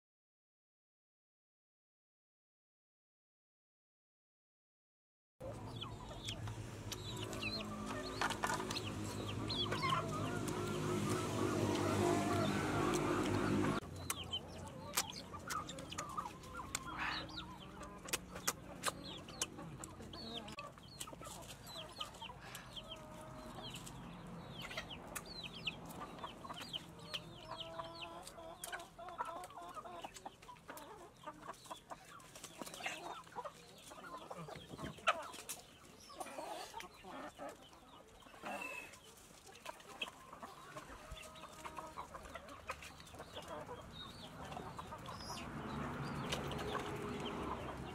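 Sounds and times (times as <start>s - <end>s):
chickens clucking: 5.4s - 47.9s.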